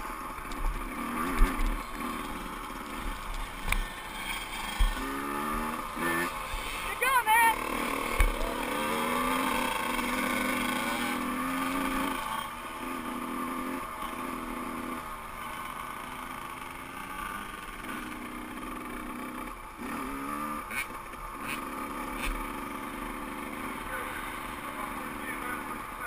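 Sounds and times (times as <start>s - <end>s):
two-stroke motocross engine revving: 0.0s - 26.0s.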